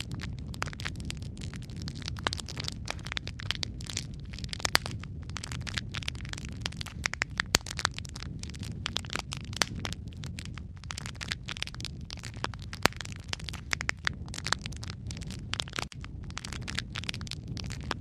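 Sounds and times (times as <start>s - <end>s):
logs crackling in fireplace: 0.0s - 18.0s
low rumble of flames: 0.0s - 18.0s
sharp pops of burning wood: 0.0s - 18.0s.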